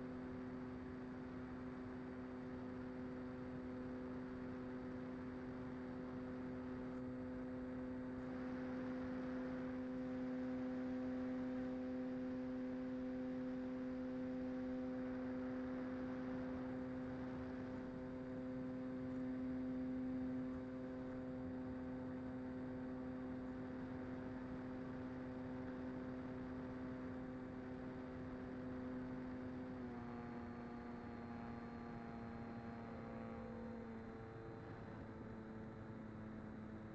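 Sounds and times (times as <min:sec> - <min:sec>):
electric motor and propeller droning: 0:00.0 - 0:36.9.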